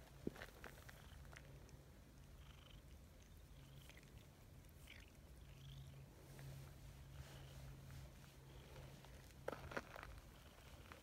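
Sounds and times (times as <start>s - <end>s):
cat purring: 0.4s - 11.0s.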